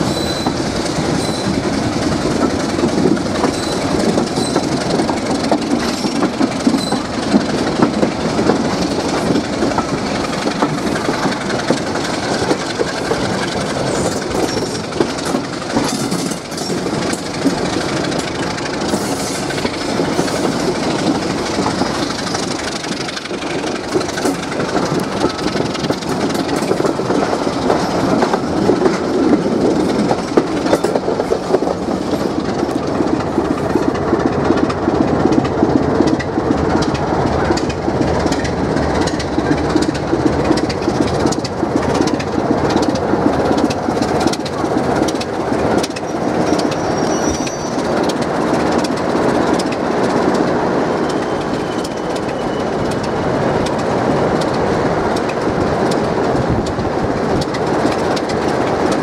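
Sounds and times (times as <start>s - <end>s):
train wheels clattering over rail joints: 0.0s - 59.0s.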